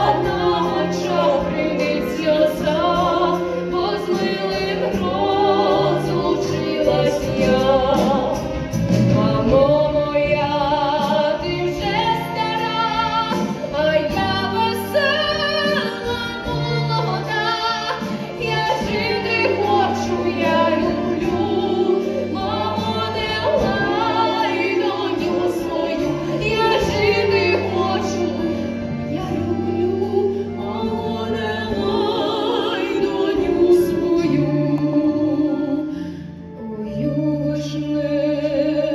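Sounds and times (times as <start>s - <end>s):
instrumental backing: 0.0s - 38.9s
women singing with vibrato: 0.0s - 38.9s.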